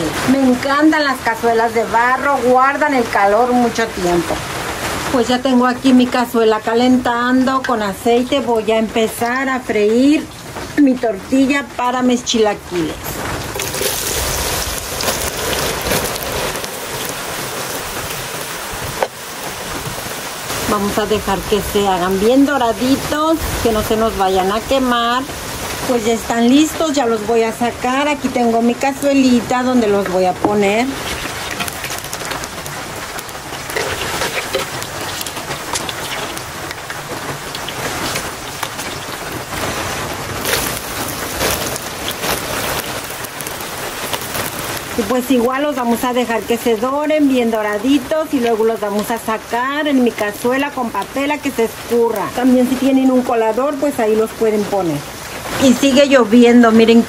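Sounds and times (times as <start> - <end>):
rain falling: 0.0 - 57.0
tortilla strips sizzling in oil: 0.0 - 57.0.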